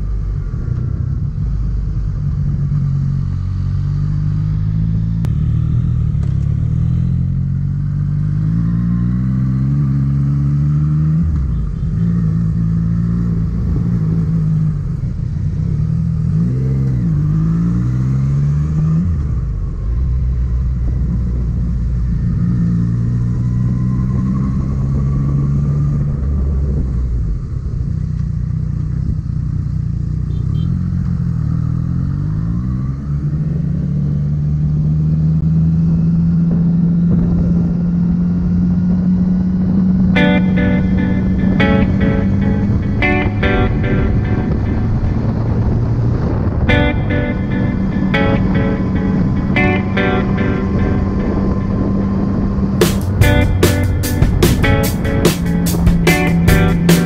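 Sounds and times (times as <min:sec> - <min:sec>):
motorcycle engine revving through gears: 0:00.0 - 0:57.0
road and wind hiss: 0:00.0 - 0:57.0.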